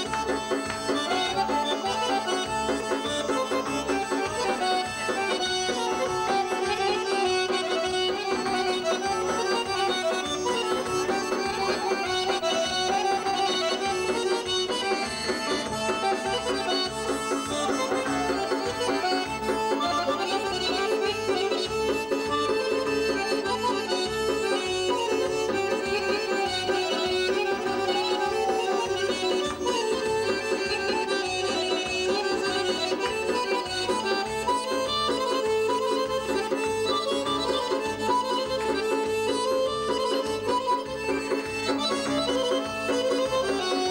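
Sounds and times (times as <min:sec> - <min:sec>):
button accordions playing folk melody: 0:00.0 - 0:43.9
low repeating rhythm: 0:00.0 - 0:43.9.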